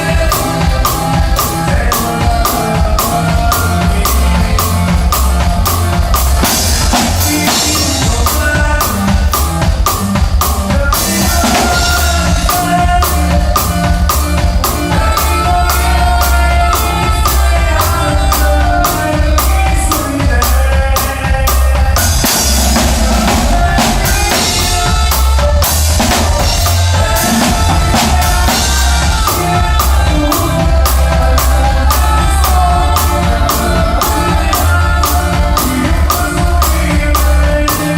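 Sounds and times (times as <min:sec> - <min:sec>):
band playing a song: 0:00.0 - 0:37.9.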